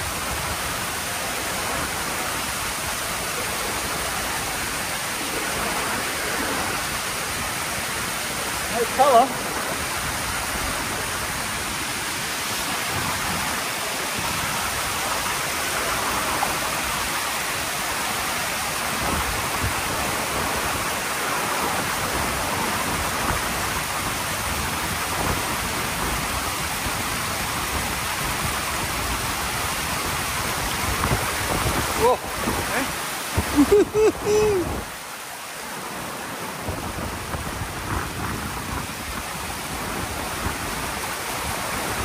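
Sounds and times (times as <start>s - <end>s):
fast-flowing river water: 0.0s - 42.0s
white water breaking: 0.0s - 42.0s.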